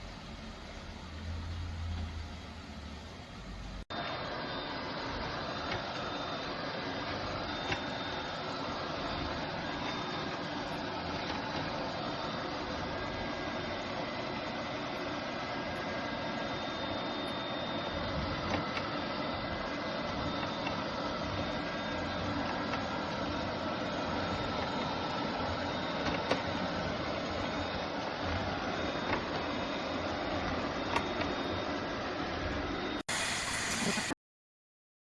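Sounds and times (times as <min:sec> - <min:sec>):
faint high whine: 0:00.0 - 0:34.2
machine whirring: 0:00.0 - 0:34.2.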